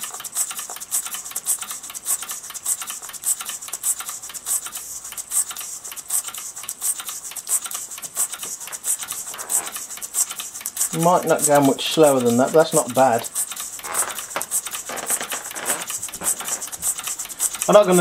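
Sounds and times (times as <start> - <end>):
model steam engine ticking: 0.0 - 18.0.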